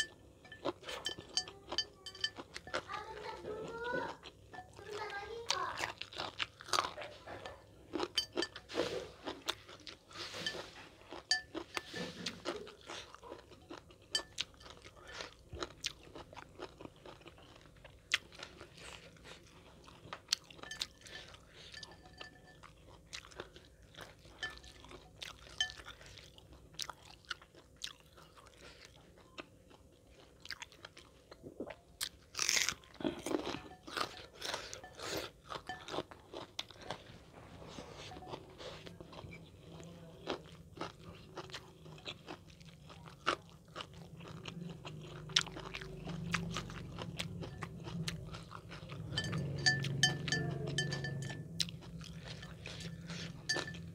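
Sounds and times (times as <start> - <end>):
crunching and chewing food: 0.0 - 53.9.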